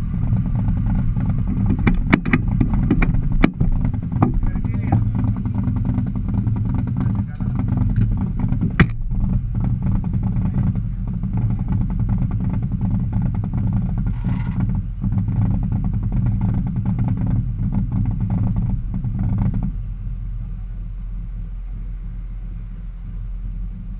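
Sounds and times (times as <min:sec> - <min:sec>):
race car engine idling: 0:00.0 - 0:23.9.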